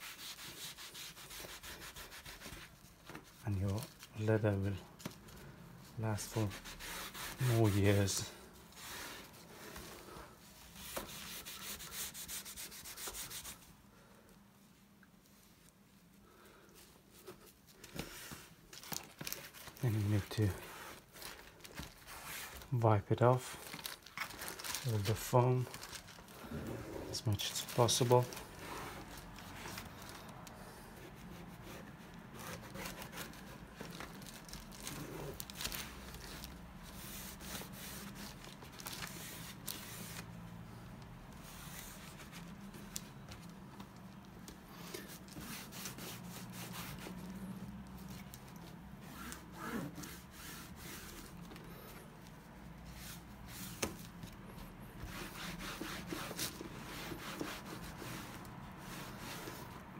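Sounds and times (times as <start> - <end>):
cloth rubbing leather: 0.0 - 4.7, 5.9 - 13.7, 23.6 - 59.9.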